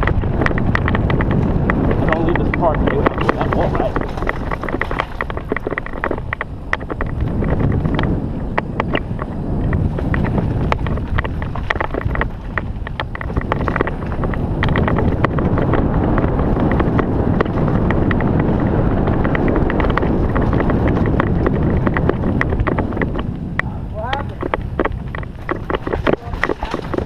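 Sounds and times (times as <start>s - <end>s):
bike rattling and clicking: 0.0s - 27.0s
bike tyres on dirt: 0.0s - 27.0s
wind rushing over microphone: 0.0s - 27.0s.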